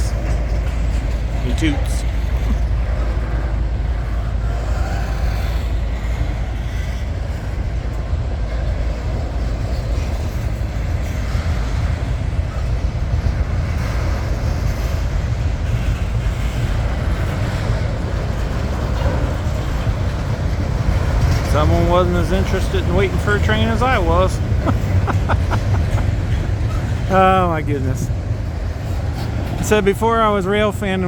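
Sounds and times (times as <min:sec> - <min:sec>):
freight train rumbling by: 0:00.0 - 0:31.0.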